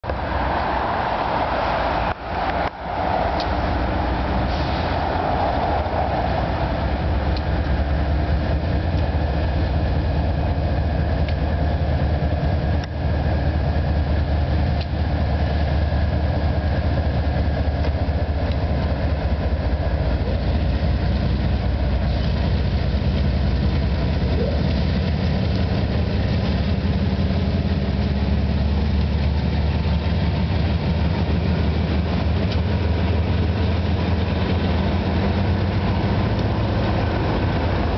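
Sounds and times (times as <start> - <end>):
locomotive engine rumble: 0.0 - 37.9
train on rails: 0.0 - 37.9.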